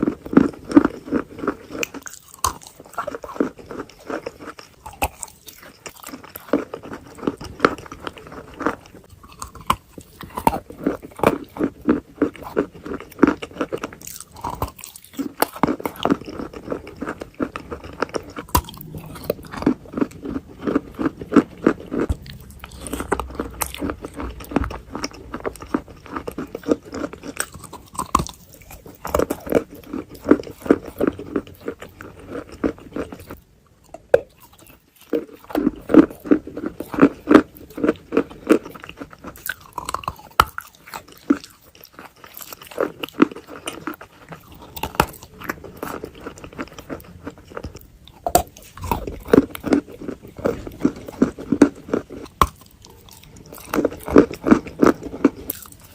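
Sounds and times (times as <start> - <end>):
chewing wet crunches: 0.0 - 55.9.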